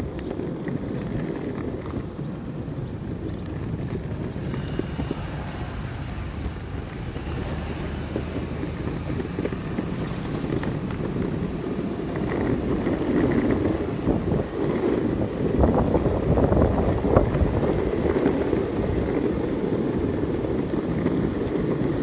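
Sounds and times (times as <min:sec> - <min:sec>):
skateboard wheels rolling on asphalt: 0:00.0 - 0:22.0.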